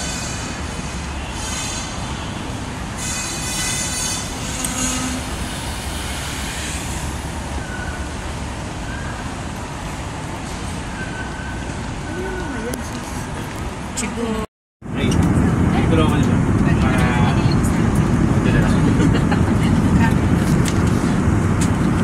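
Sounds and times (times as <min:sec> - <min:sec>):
airport terminal rumble and hum: 0:00.0 - 0:22.0.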